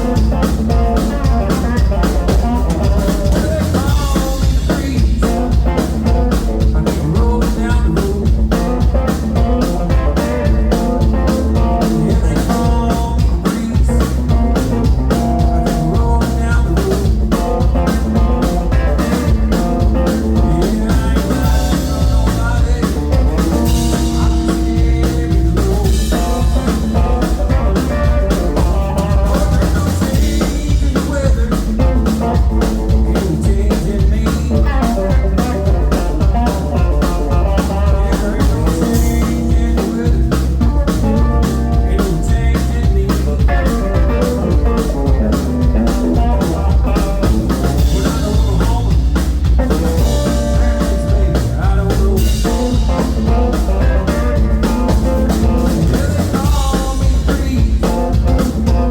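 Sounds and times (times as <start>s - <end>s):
blues-rock band playing: 0.0s - 58.9s
drum kit rimshots and kick drum: 0.0s - 58.9s.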